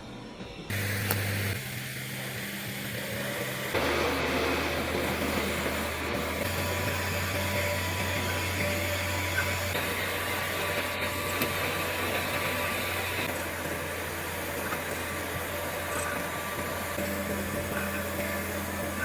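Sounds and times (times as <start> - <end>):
welding machine hum and hiss: 0.0 - 19.0.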